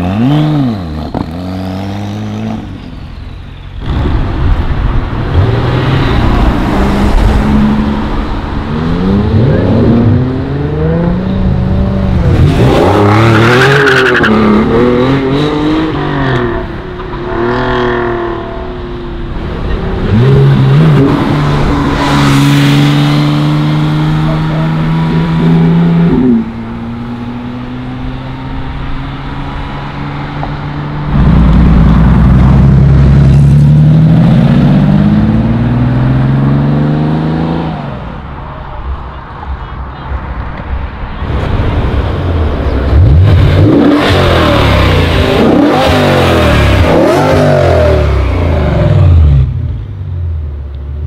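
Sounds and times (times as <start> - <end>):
sports car engines revving: 0.0 - 39.7, 40.6 - 50.8.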